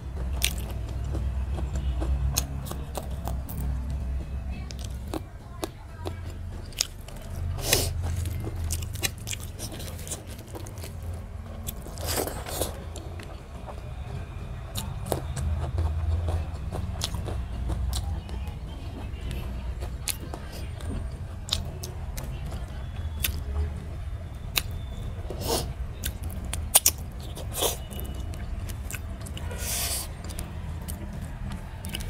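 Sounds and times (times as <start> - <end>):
chewing and lip smacking: 0.0 - 3.8, 4.6 - 23.8, 24.4 - 32.0.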